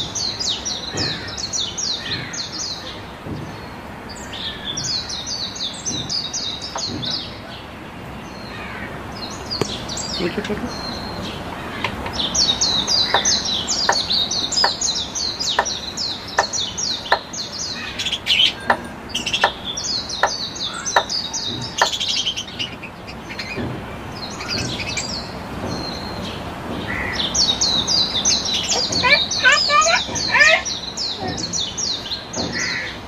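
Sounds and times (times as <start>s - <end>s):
budgerigars chirping: 0.0s - 33.0s.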